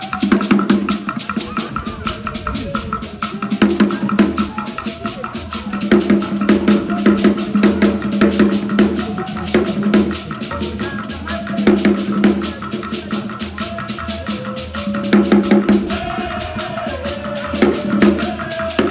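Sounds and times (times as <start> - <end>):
fast drum and percussion music: 0.0 - 18.9.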